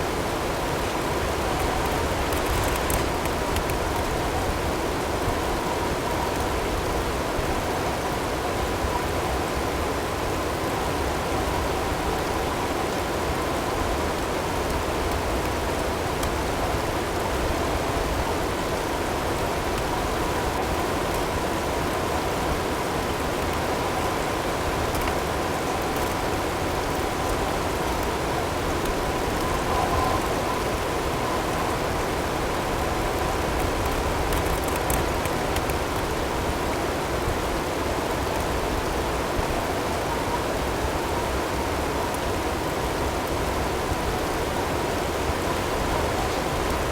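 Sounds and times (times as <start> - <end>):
wind-driven snow and hail: 0.1 - 7.7, 11.8 - 46.9.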